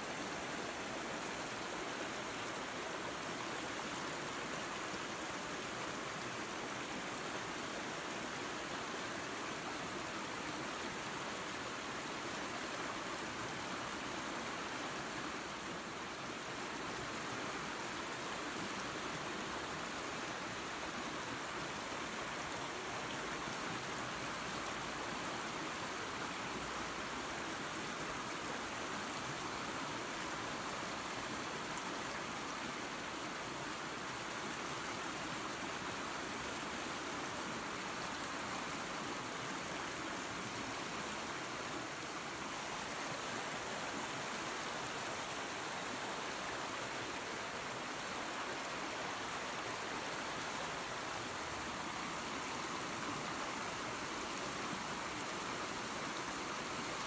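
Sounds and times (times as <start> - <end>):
small waterfall and creek running: 0.0 - 57.0.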